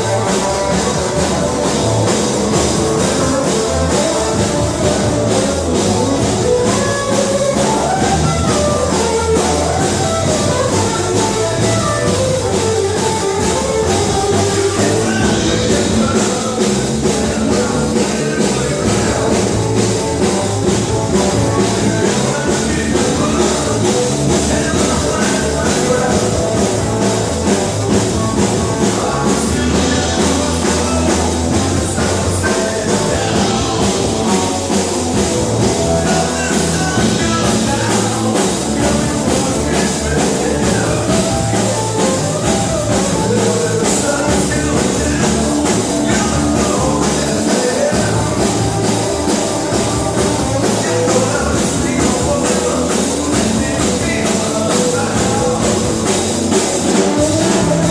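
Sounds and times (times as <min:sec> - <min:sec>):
rock and roll music: 0:00.0 - 0:57.9.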